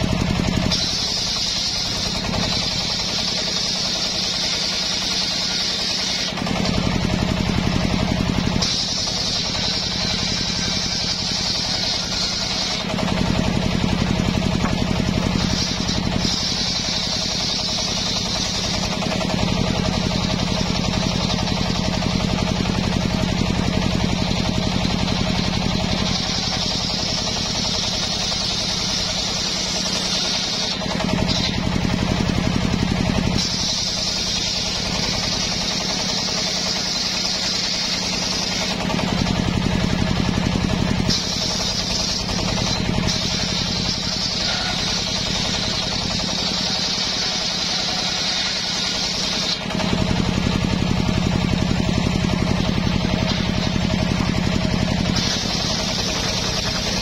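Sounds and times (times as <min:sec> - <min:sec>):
table saw cutting wood: 0:00.0 - 0:57.0.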